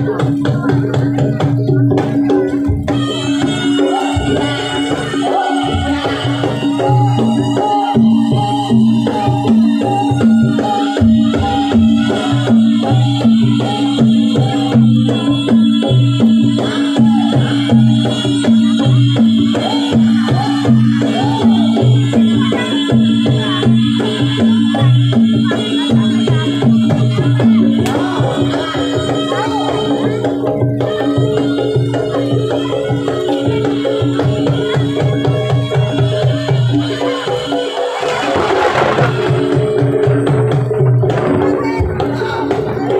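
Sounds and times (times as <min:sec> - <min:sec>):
low pitched percussion: 0:00.0 - 0:42.9
rattles and hand percussion: 0:00.0 - 0:42.9.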